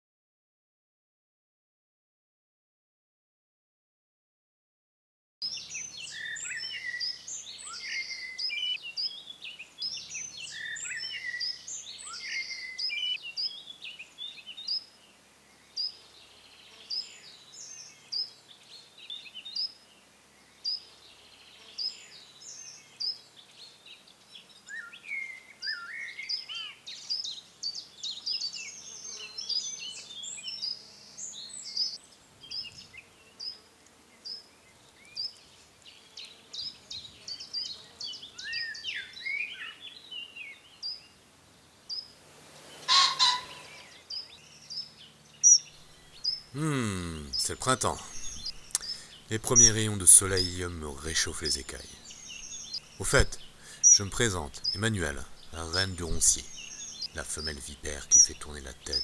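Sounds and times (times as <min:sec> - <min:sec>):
songbirds chirping and trilling: 0:05.4 - 0:59.0.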